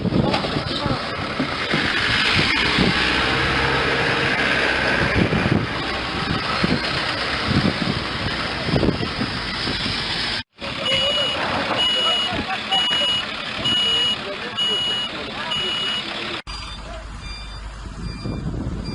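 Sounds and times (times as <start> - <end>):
bulldozer engine running: 0.0 - 18.9.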